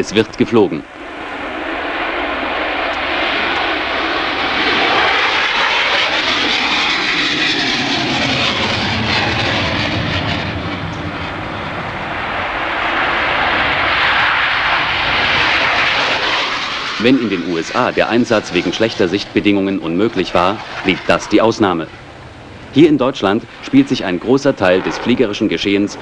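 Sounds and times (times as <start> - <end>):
jet fighter afterburner roar: 0.0 - 26.0.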